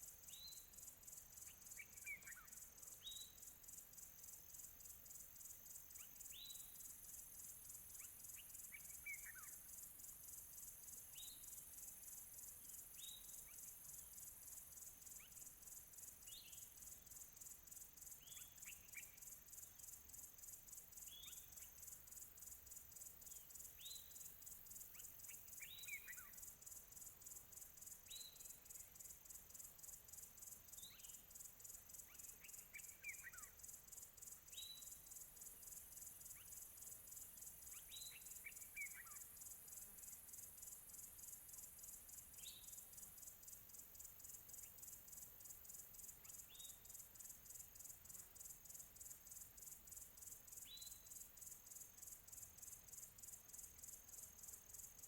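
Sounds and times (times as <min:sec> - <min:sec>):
distant crickets chirping: 0:00.0 - 0:55.0.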